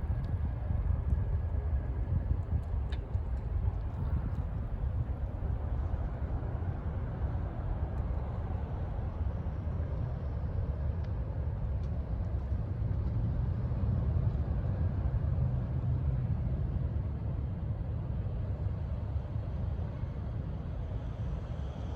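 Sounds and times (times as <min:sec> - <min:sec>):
jet engines low rumble: 0:00.0 - 0:21.9.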